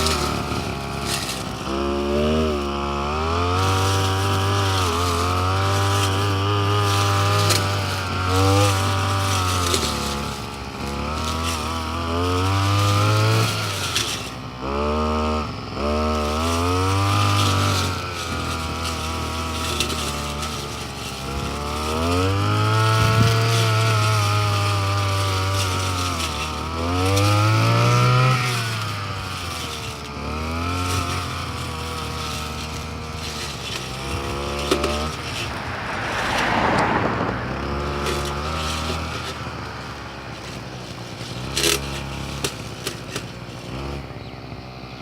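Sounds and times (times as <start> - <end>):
brush cutter engine revving: 0.0 - 45.0.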